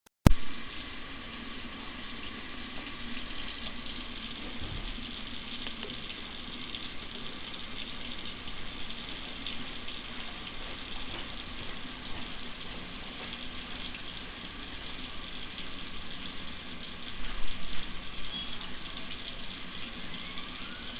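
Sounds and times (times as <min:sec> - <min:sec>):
water running from a tap: 0:00.4 - 0:20.9.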